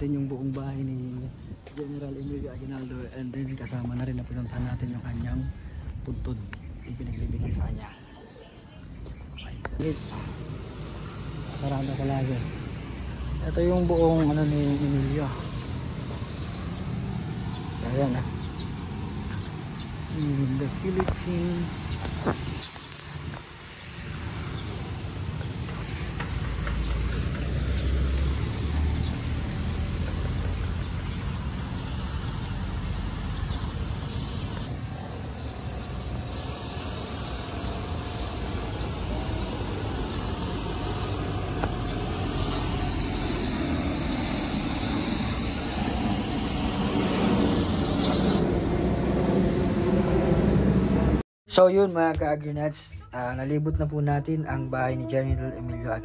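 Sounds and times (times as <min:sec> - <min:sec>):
road traffic rumble: 0:00.0 - 0:51.2.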